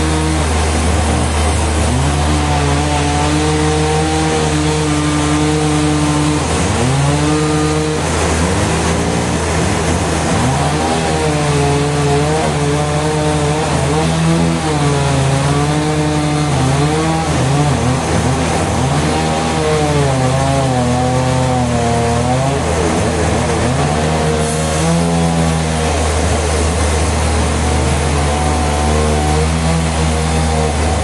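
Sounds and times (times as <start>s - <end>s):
sawmill saw running: 0.0s - 31.0s.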